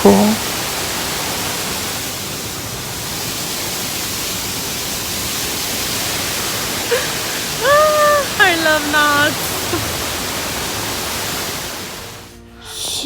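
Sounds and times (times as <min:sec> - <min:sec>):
small waterfall splashing: 0:00.0 - 0:12.4.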